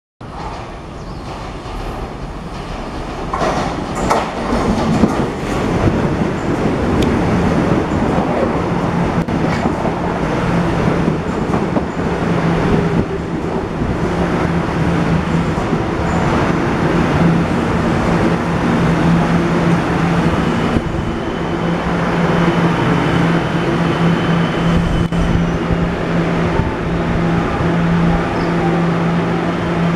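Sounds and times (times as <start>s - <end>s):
train wheels rumbling and clattering: 0.2s - 29.9s.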